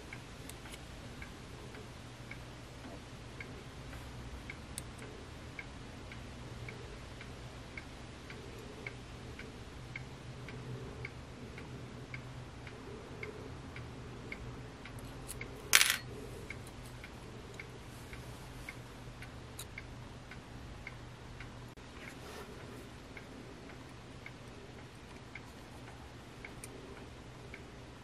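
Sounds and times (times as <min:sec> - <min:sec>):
soft ticking: 0:00.0 - 0:28.0.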